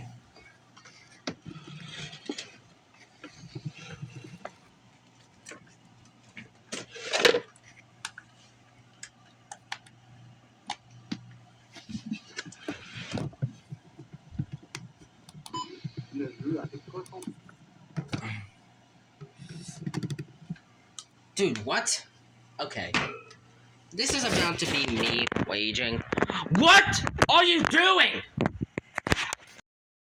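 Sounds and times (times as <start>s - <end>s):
low steady hum: 0.0s - 28.8s.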